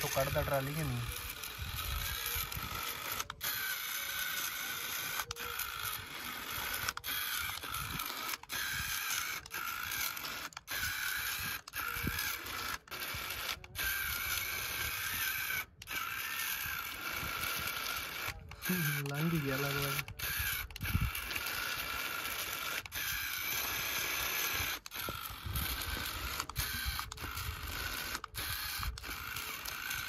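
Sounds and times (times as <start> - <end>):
electric gear motor whirring: 0.0 - 30.0.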